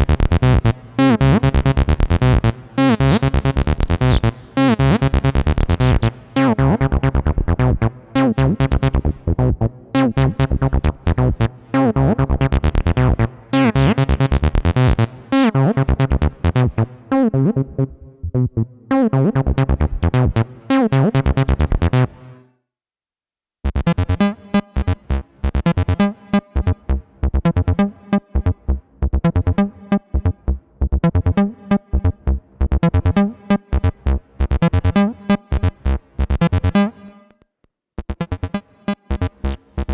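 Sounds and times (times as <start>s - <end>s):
synthesizer bassline: 0.0s - 22.2s, 24.8s - 35.0s, 38.2s - 39.9s.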